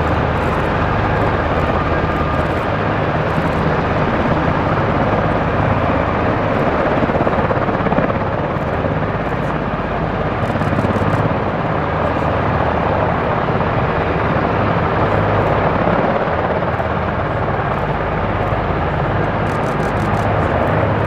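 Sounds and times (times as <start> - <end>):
aircraft noise with low beat: 0.0 - 21.0.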